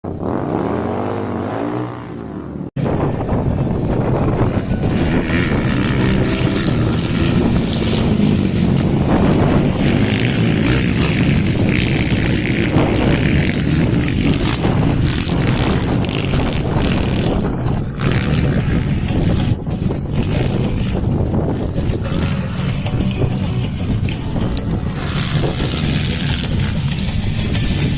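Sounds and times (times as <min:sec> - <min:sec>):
motocross bike engines racing: 0:00.1 - 0:27.9
wind buffeting microphone: 0:00.1 - 0:27.9.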